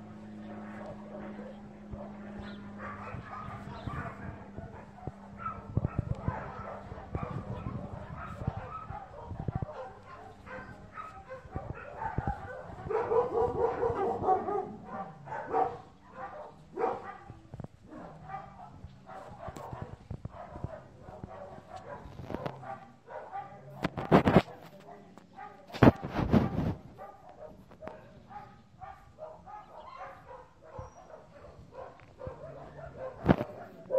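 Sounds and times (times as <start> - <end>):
dog barking: 0.6 - 33.9.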